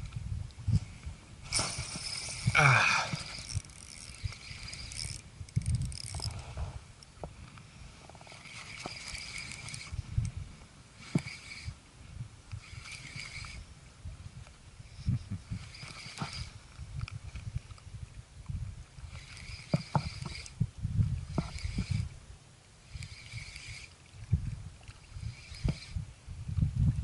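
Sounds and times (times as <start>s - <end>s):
wind on microphone: 0.0s - 7.4s, 8.2s - 27.0s
fishing reel whirring: 0.8s - 13.8s, 14.7s - 17.9s, 18.5s - 22.2s, 22.8s - 26.6s.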